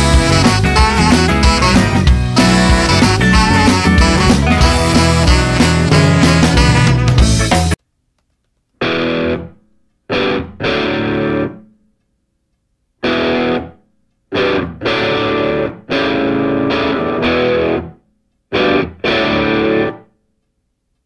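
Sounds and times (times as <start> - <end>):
distorted electric guitar chords: 0.0 - 7.8, 8.8 - 11.7, 13.0 - 20.1.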